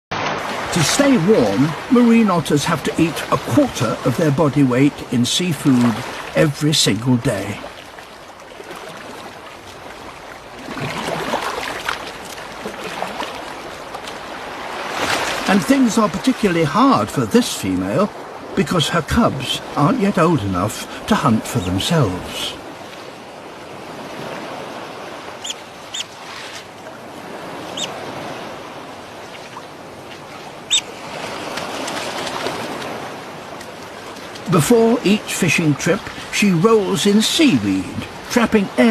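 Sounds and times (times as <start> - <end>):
sea water splashing and lapping: 0.1 - 38.9.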